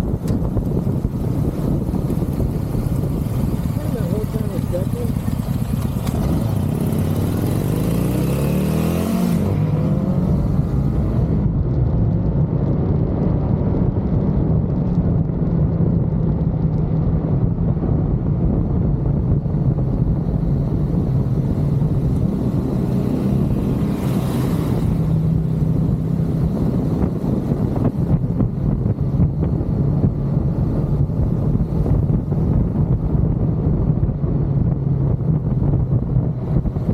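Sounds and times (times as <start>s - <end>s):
motorcycle engine cruising: 0.0s - 36.9s
wind rushing over microphone: 0.0s - 36.9s.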